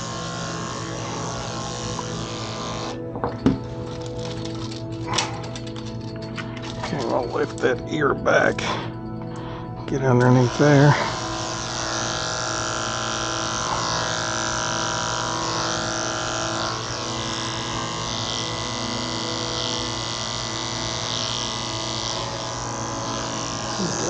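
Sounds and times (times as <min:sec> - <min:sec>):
electric clippers humming: 0:00.0 - 0:07.8, 0:08.6 - 0:24.0.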